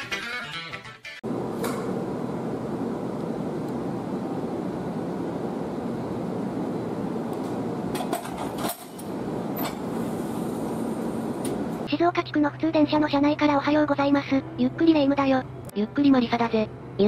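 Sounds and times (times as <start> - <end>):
train equipment hum and whir: 1.2 - 17.0.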